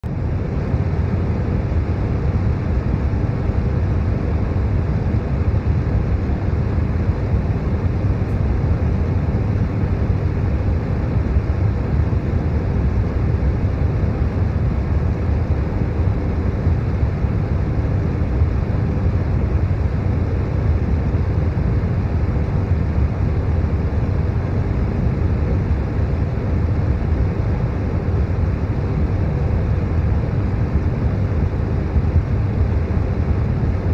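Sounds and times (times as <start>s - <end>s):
deep brown noise: 0.0s - 33.9s
electric fan hum: 0.0s - 33.9s.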